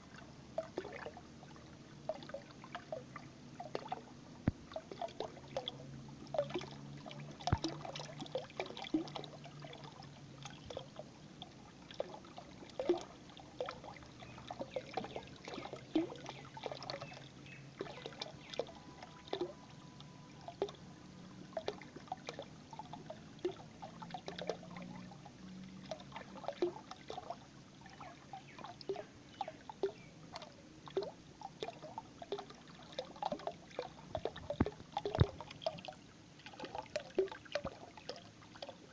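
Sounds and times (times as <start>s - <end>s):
water stream trickling: 0.0s - 38.9s
bubbles plinking: 0.6s - 1.2s, 2.0s - 38.9s.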